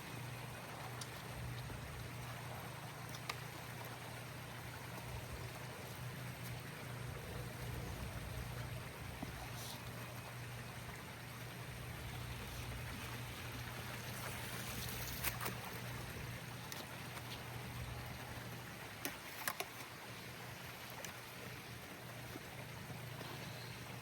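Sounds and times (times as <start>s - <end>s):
pool water running: 0.0s - 24.0s.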